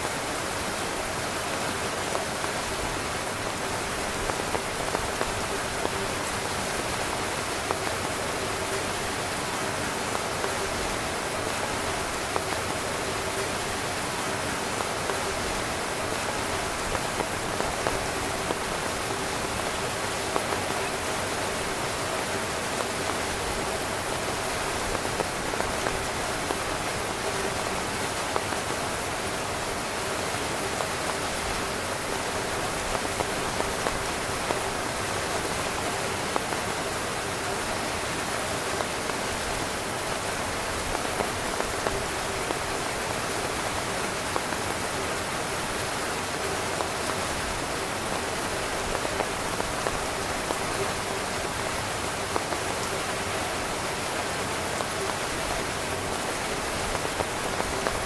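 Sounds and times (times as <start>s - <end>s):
heavy rain on tent fabric: 0.0s - 58.0s.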